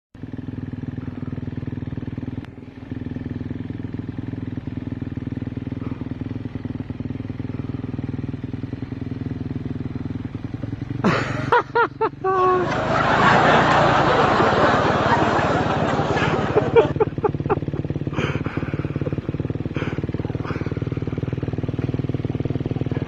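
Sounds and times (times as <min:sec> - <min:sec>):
dirt bike engine running: 0:00.2 - 0:23.0.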